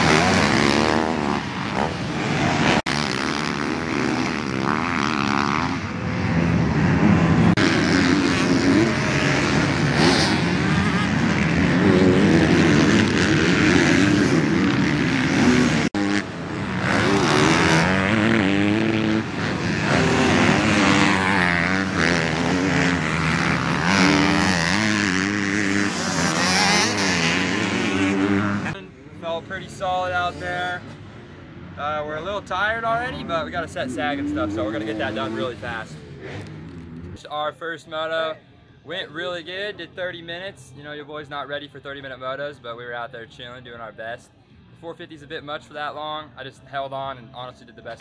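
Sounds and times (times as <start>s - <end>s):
dirt bike engines revving: 0.0s - 40.2s.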